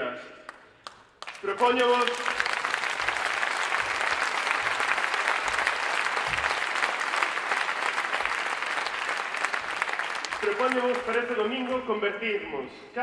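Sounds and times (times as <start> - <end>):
audience applauding: 0.5 - 11.9.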